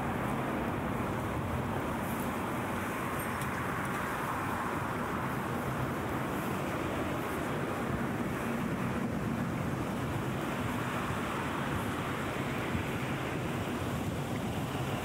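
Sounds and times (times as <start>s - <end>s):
city street traffic roar: 0.0s - 15.0s.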